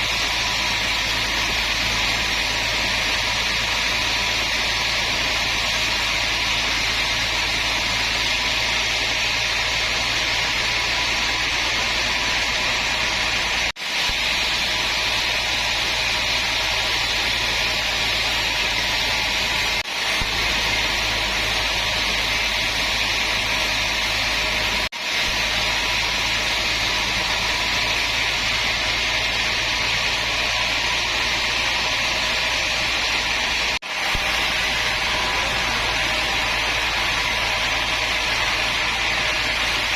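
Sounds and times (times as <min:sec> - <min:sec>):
woodworking machine whirring: 0:00.0 - 0:39.9.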